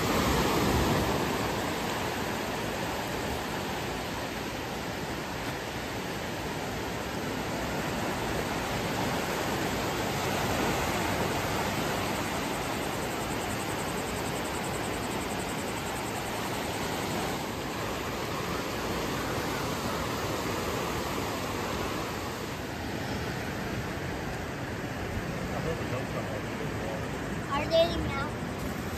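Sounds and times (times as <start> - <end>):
waves breaking on beach: 0.0 - 28.9.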